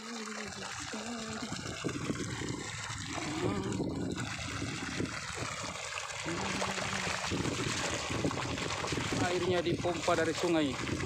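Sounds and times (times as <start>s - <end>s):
water gushing into a pool: 0.0s - 11.0s.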